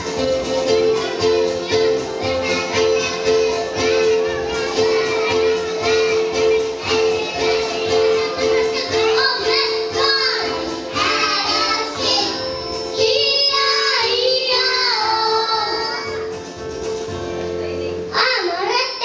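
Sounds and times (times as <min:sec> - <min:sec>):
children singing: 0:00.0 - 0:16.4
instrumental accompaniment: 0:00.0 - 0:19.0.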